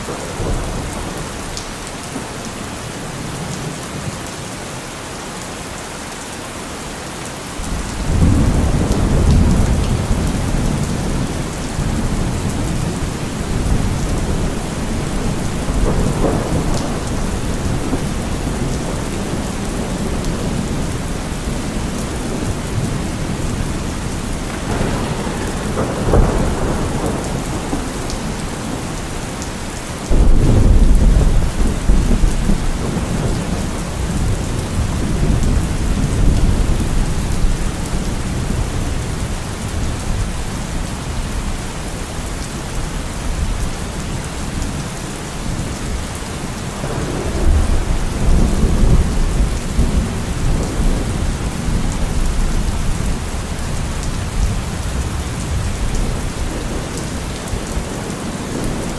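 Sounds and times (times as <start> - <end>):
thunder rumbling: 0.0 - 1.8, 7.6 - 42.5, 43.2 - 58.9
steady rain: 0.0 - 58.9.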